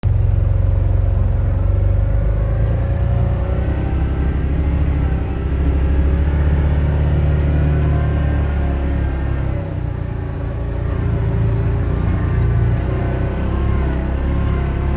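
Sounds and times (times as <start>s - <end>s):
off-road vehicle engine rumbling: 0.0s - 14.9s.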